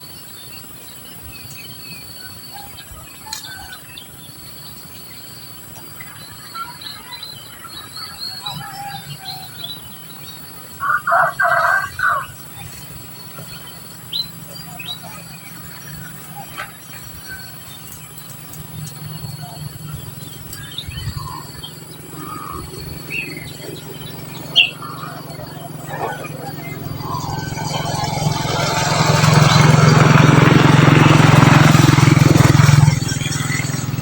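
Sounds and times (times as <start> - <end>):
finches chirping and twittering: 0.2 - 30.0.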